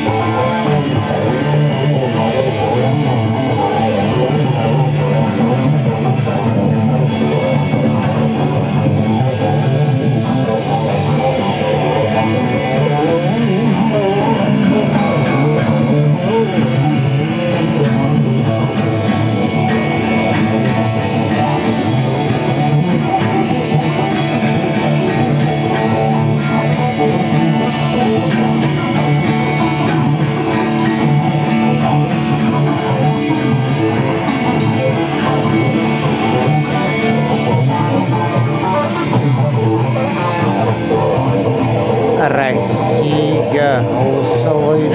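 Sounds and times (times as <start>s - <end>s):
acoustic guitar strummed: 0.0s - 44.9s
electric guitar: 0.0s - 44.9s.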